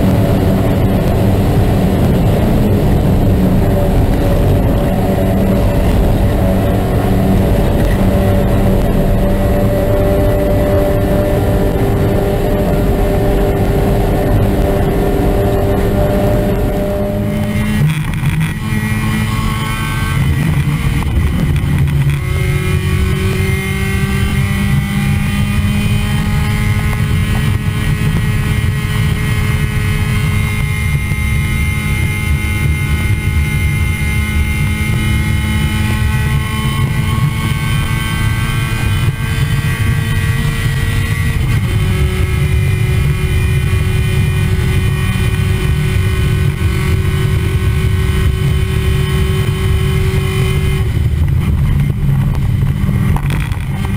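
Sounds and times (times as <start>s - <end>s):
race car engine accelerating: 0.0s - 53.9s
road and wind rumble: 0.0s - 53.9s.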